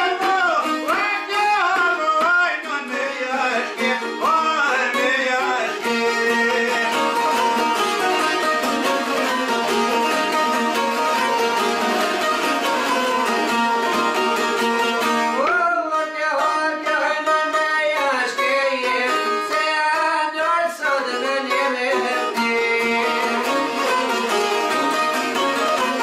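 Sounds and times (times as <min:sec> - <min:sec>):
lutes strummed fast: 0:00.0 - 0:26.0
man singing: 0:00.0 - 0:26.0.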